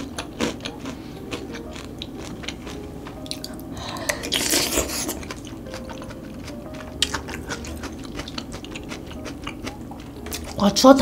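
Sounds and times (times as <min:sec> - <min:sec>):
crunchy chewing: 0:00.0 - 0:10.6.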